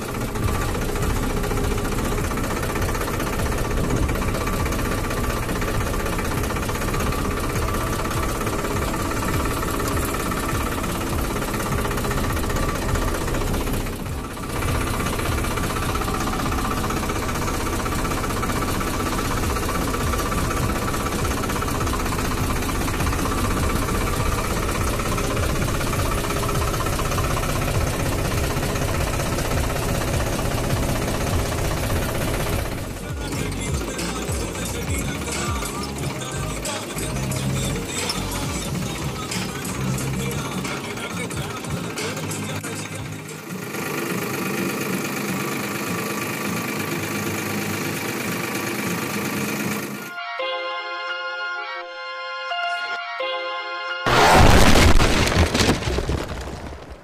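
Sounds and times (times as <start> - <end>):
tractor diesel engine running: 0.0 - 53.3, 54.1 - 57.0.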